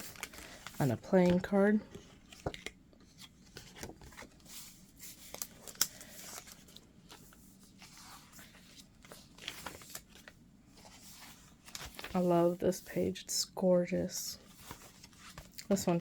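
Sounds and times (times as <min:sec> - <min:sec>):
paper pages rustling: 0:00.0 - 0:12.3, 0:14.4 - 0:16.0.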